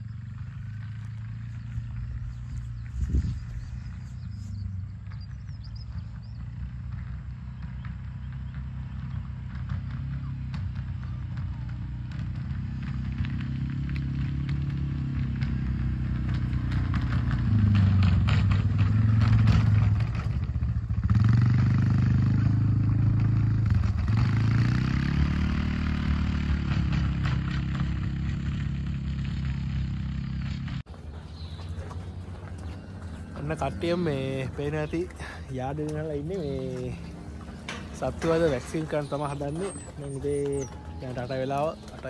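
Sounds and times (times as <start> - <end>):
quad bike engine passing by: 0.0 - 42.0.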